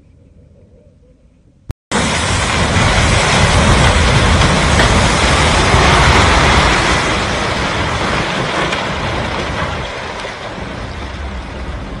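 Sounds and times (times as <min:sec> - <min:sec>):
debris falling: 0:01.9 - 0:11.7
building collapsing rumble: 0:01.9 - 0:12.0.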